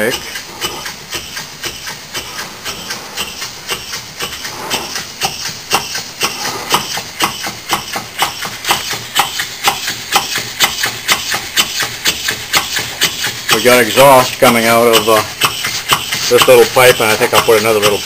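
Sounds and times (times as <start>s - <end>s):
steam engine exhaust chuffs: 0.0s - 18.0s.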